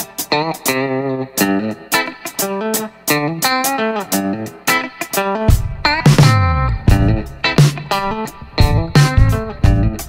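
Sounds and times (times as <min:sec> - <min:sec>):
plucked melody music: 0:00.0 - 0:10.0.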